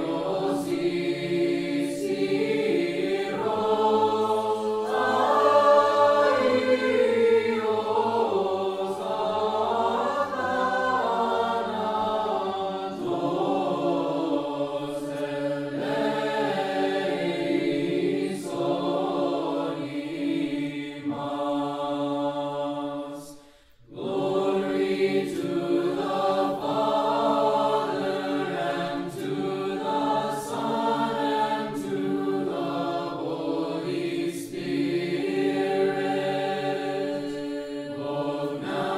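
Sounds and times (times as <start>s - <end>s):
choir singing chant: 0.0s - 38.9s.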